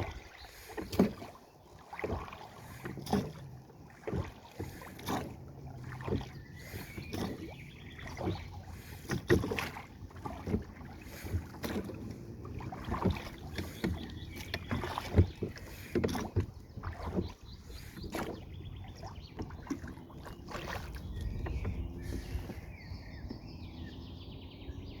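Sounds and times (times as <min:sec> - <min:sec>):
paddle splashing in water: 0:00.0 - 0:25.0.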